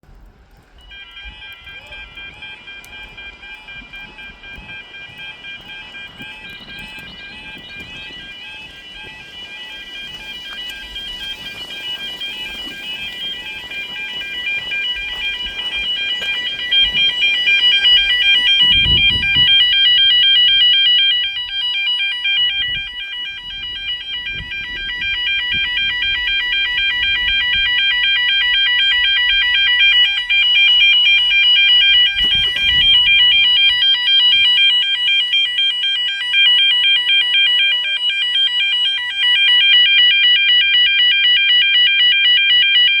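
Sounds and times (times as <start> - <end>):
level crossing warning alarm: 0.0 - 43.0.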